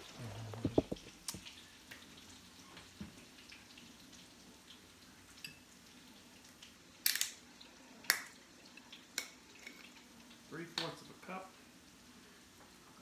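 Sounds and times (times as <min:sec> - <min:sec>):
mushrooms sizzling in a skillet: 0:00.0 - 0:13.0.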